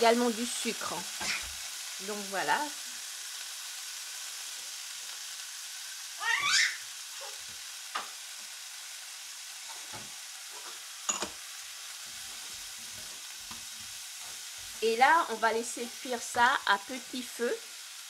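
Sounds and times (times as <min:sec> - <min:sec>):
food sizzling in frying pan: 0:00.0 - 0:18.0.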